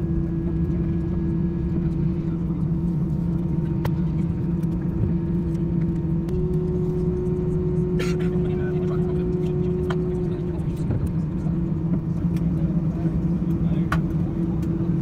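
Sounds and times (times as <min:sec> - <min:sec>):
jet cabin drone: 0:00.0 - 0:15.0.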